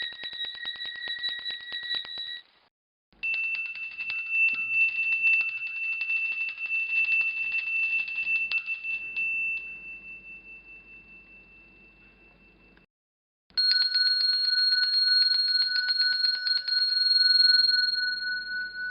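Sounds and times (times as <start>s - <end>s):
high two-toned bell trilling: 0.0s - 2.4s, 3.2s - 12.8s, 13.6s - 18.9s
single-toned bell trilling: 0.0s - 2.4s, 3.2s - 12.8s, 13.6s - 18.9s.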